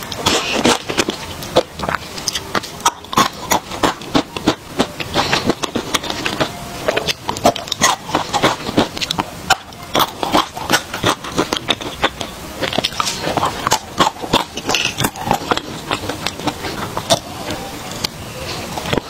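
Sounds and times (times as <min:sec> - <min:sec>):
chocolate snapping and crunching: 0:00.0 - 0:19.0.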